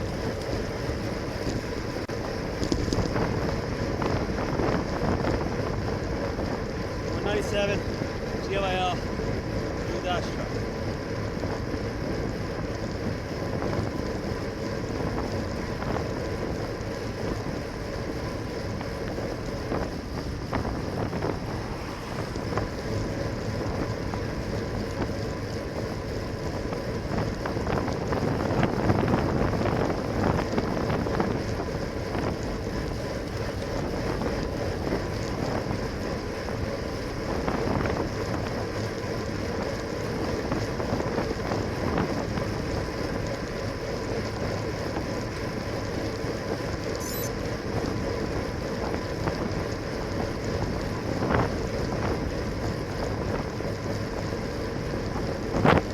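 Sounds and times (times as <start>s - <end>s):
wind buffeting microphone: 0.0s - 46.9s, 47.6s - 55.9s
road noise: 0.0s - 55.9s.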